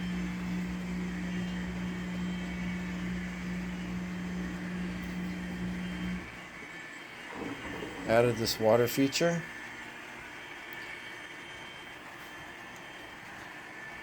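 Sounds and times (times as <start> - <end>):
electric motor hum: 0.0 - 14.0.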